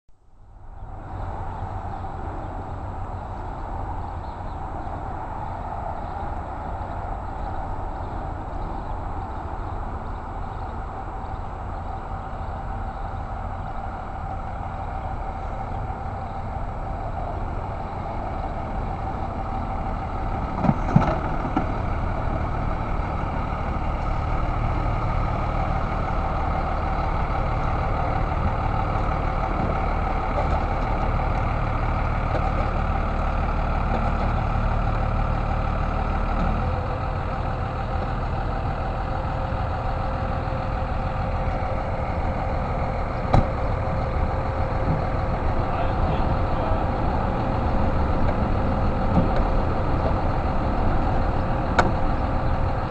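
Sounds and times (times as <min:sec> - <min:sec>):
vehicle engine idling: 0:00.1 - 0:52.9.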